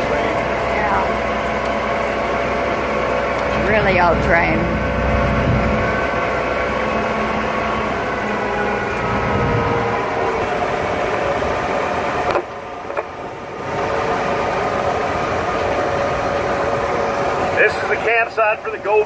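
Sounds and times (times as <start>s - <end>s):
train engine and rolling drone: 0.0s - 19.0s.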